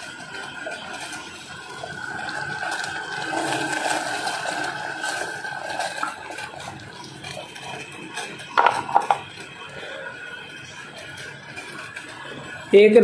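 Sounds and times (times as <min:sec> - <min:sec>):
water boiling in a saucepan: 0:00.0 - 0:13.0.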